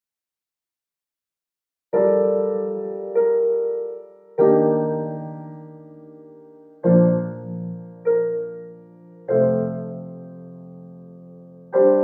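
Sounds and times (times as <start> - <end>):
slow piano chords: 2.0 - 12.0.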